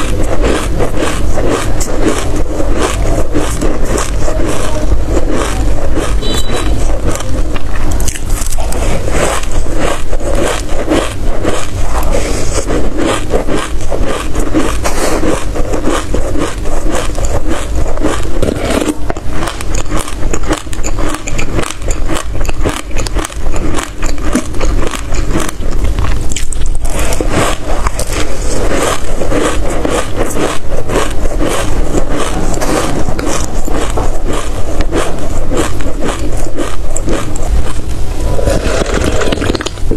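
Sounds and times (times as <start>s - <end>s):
chewing and crunching seeds: 0.0s - 39.9s.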